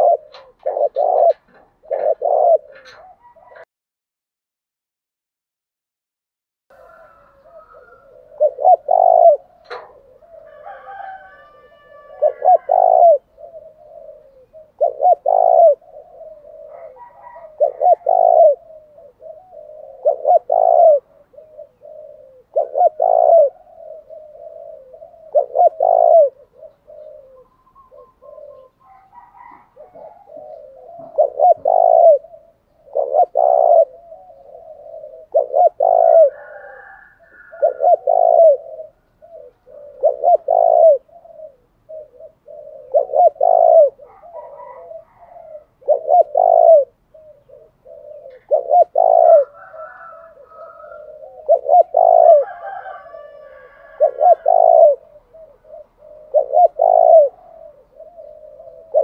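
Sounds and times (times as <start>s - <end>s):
dove cooing: 0.0s - 3.7s, 6.7s - 59.0s
faint high bird calls: 6.8s - 59.0s.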